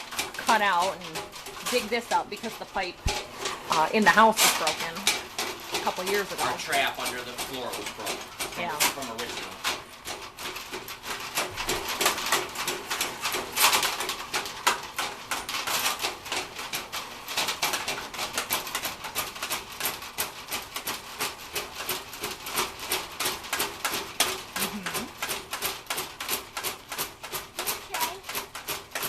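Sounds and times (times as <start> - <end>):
sewer snake cable clattering: 0.0 - 29.0.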